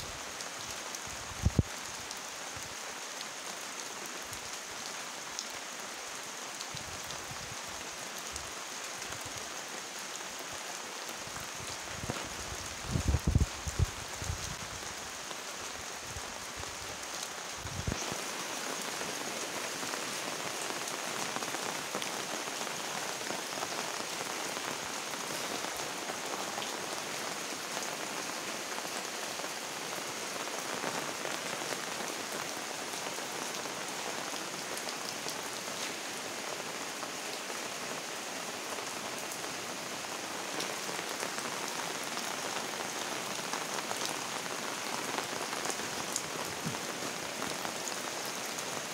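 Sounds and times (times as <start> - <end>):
rain falling on leaves: 0.0 - 48.9.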